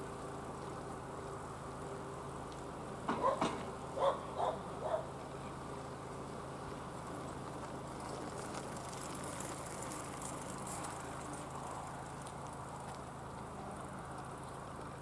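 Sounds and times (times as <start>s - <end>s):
bicycle rolling past: 0.0s - 15.0s
low background noise: 0.0s - 15.0s.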